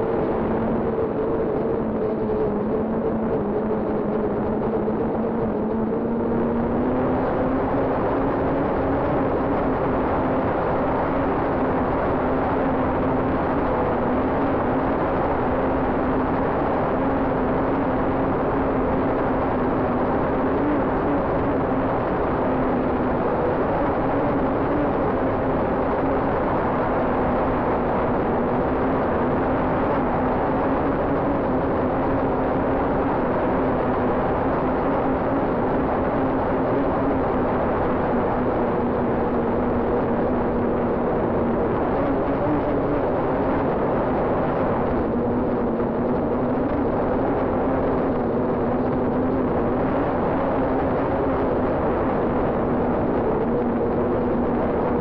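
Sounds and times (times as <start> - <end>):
wind noise: 0.0 - 55.0
drone propellers humming: 0.1 - 55.0.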